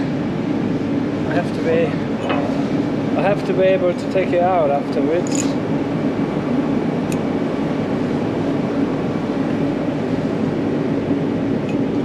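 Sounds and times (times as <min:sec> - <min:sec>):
machine droning: 0:00.0 - 0:12.0.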